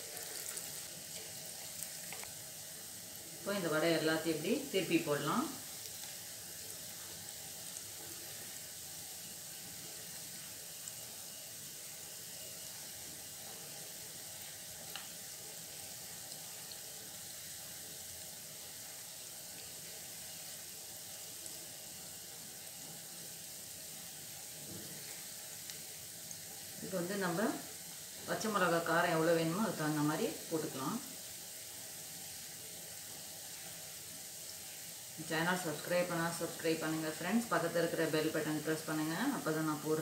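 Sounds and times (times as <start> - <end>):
food deep-frying in oil: 0.0 - 40.0.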